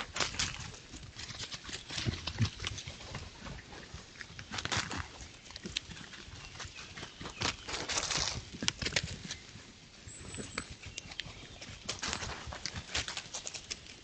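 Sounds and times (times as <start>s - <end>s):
rustling and crackling: 0.0s - 14.0s.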